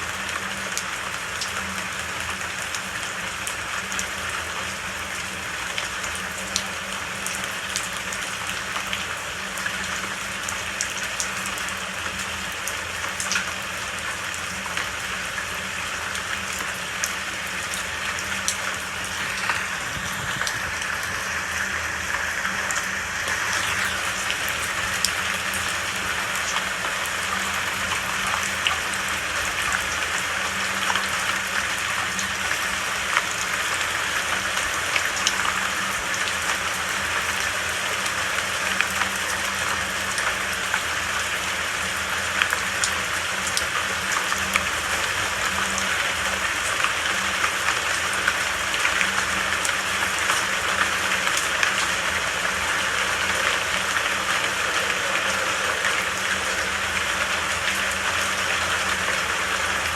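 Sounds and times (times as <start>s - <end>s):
raindrops pattering: 0.0s - 59.9s
steady rain: 0.0s - 59.9s.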